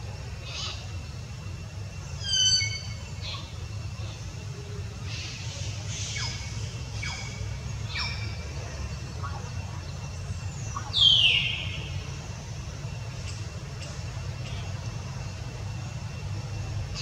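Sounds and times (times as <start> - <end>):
steady low rumble: 2.9 - 17.0.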